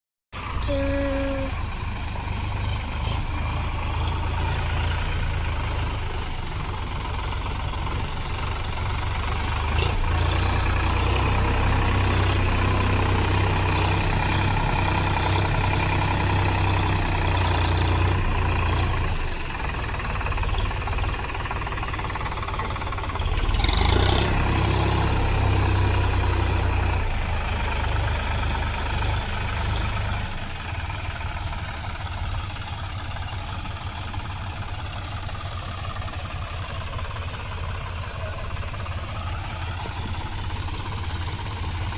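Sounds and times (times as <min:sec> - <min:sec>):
tractor diesel engine running: 0:00.4 - 0:41.9.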